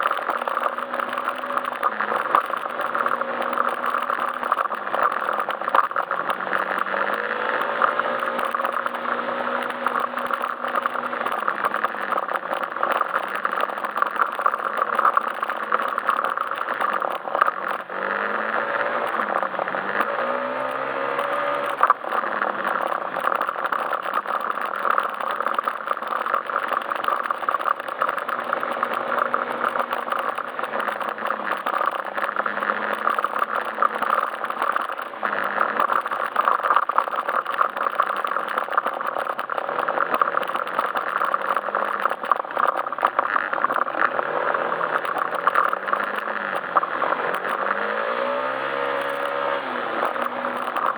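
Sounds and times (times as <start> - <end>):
scooter engine running: 0.0 - 50.9
wind and road noise: 0.0 - 50.9.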